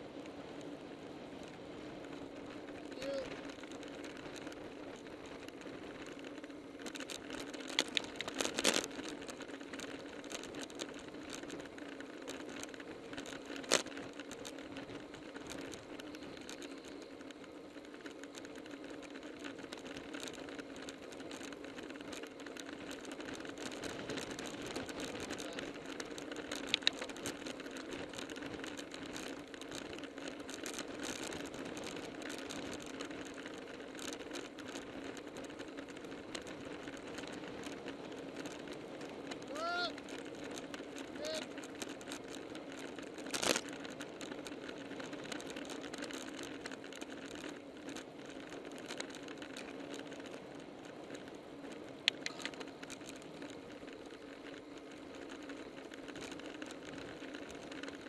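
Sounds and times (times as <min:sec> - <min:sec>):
bicycle tyres and chain whirring: 0:00.0 - 0:58.0
sharp bicycle clicks: 0:00.2 - 0:58.0.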